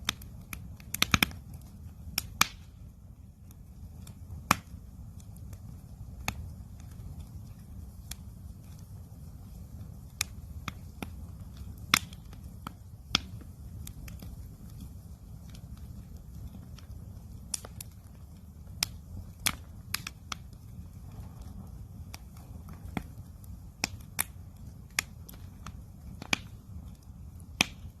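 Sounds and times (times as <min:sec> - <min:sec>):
campfire crackling and popping: 0:00.0 - 0:28.0
low fire rumble: 0:00.0 - 0:28.0.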